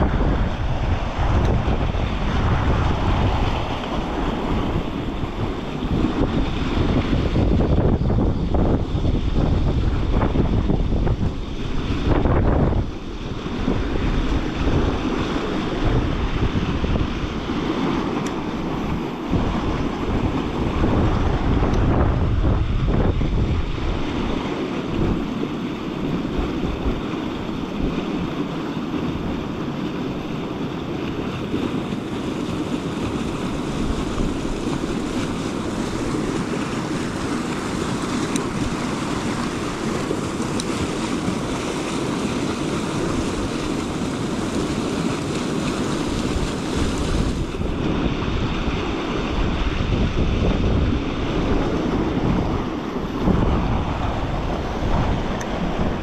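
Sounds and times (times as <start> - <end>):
river water rushing: 0.0 - 56.0
wind buffeting microphone: 0.0 - 56.0.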